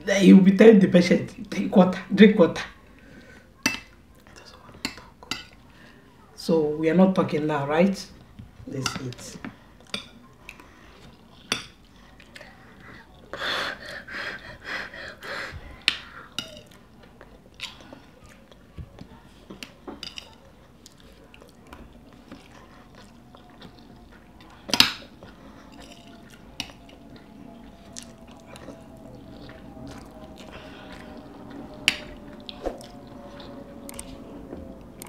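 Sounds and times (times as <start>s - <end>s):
people chewing: 2.6s - 6.4s, 8.1s - 35.0s.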